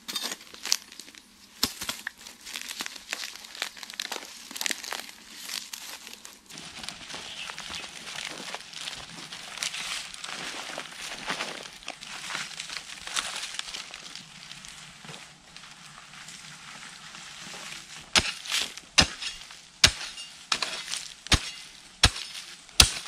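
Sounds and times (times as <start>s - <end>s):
dry leaves crackling and rustling: 0.4s - 23.0s
hoe scraping through ash and leaves: 2.3s - 23.0s.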